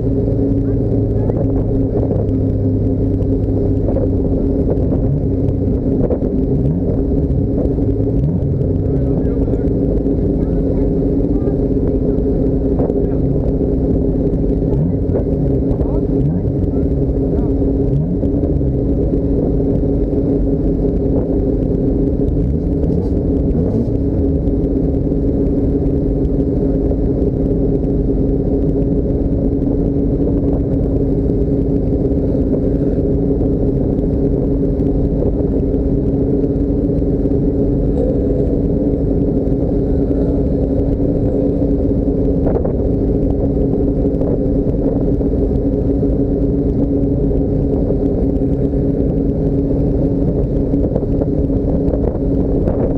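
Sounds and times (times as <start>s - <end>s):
car driving with droning hum: 0.0s - 52.9s.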